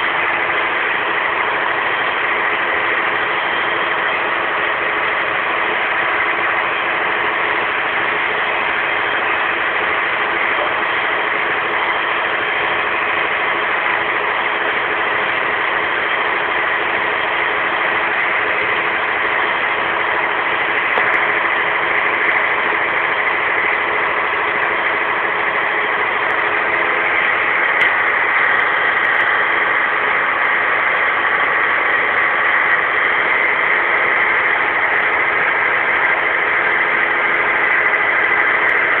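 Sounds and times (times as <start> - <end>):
machine droning: 0.0 - 39.0.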